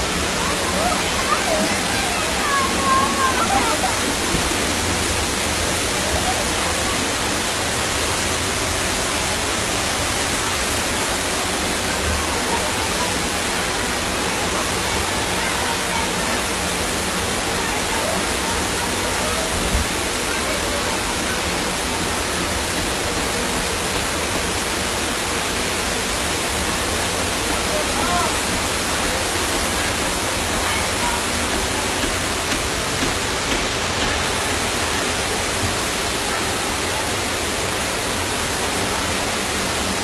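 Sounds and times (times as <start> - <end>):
floodwater rushing down a street: 0.0 - 40.0.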